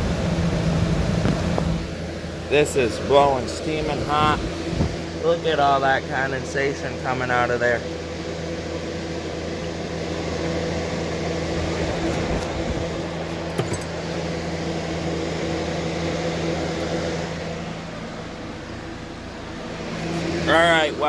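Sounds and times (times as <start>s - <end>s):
compressor hum: 0.0s - 21.0s
fan rushing air: 0.0s - 21.0s.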